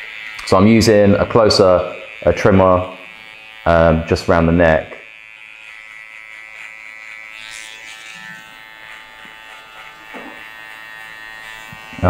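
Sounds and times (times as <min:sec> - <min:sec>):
electric hair trimmer buzzing: 0:00.0 - 0:12.0.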